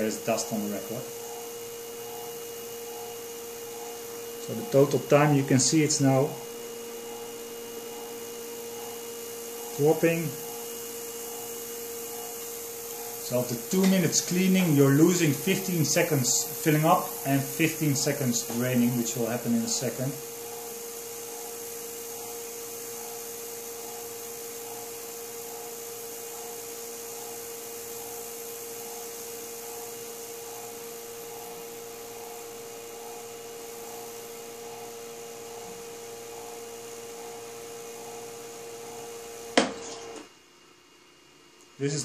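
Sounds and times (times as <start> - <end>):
machine humming with pulsing: 0.0 - 42.0.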